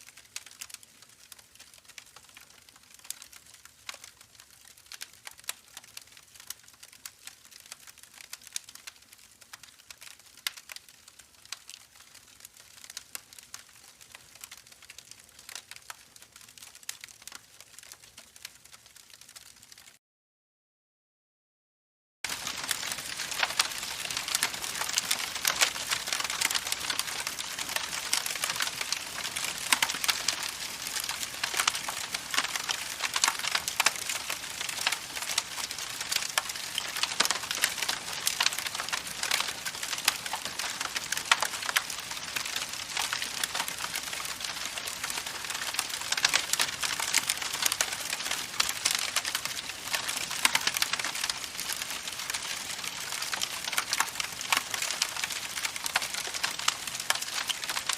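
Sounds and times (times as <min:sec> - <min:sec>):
campfire crackling: 0:00.0 - 0:20.0, 0:22.2 - 0:57.9.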